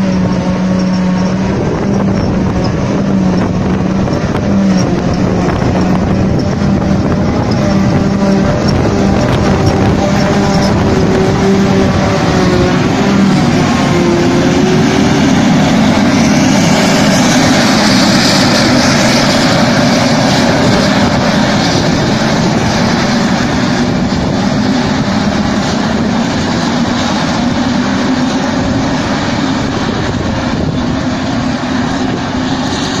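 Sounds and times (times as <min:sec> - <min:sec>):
forage harvester roaring: 0:00.0 - 0:33.0.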